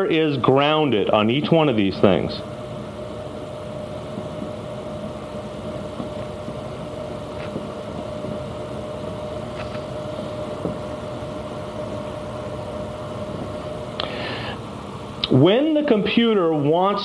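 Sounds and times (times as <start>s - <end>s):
steady hum with mid-pitched tone: 0.0s - 17.0s.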